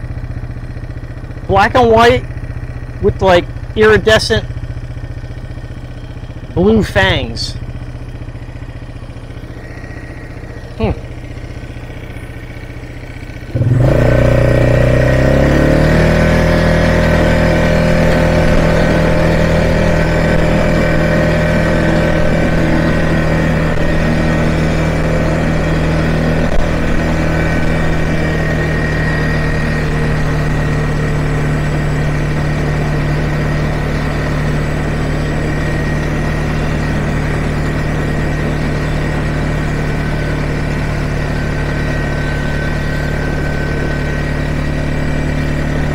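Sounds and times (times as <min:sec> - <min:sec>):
quad engine idling and revving: 0:00.0 - 0:45.9.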